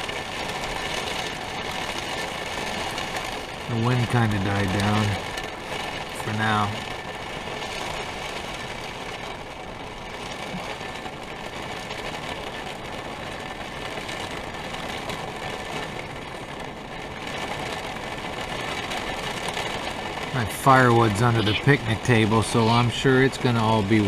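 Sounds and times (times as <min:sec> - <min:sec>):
rain on a roof from inside: 0:00.0 - 0:24.0.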